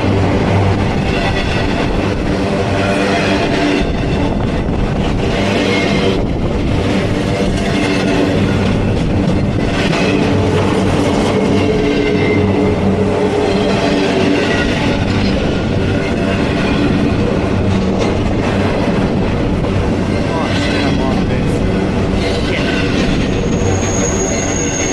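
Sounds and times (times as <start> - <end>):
freight train rolling past: 0.0 - 24.9.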